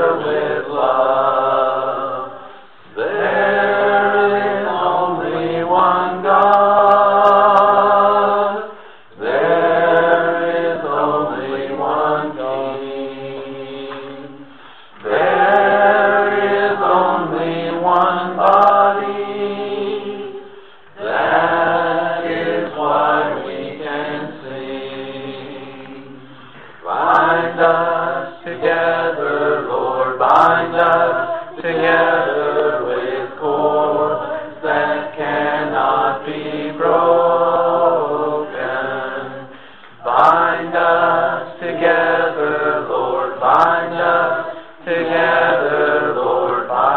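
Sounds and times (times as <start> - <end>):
person singing devotional chant: 0.0 - 46.9.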